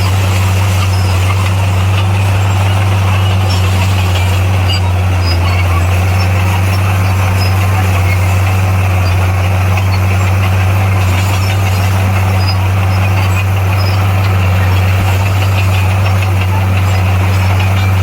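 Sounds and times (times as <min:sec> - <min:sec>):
bulldozer diesel engine droning: 0:00.0 - 0:18.0.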